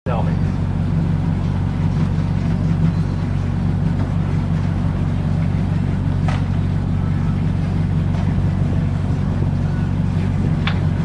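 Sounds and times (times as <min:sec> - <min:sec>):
boat diesel engine idling: 0:00.1 - 0:11.0.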